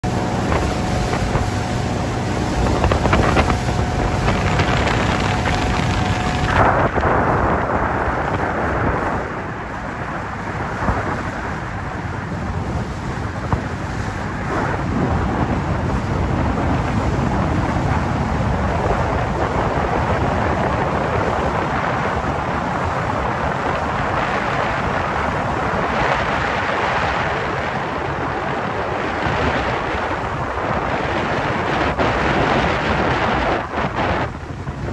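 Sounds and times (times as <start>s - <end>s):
powerboat engines at high speed: 0.0s - 34.9s
wind on microphone: 0.0s - 34.9s.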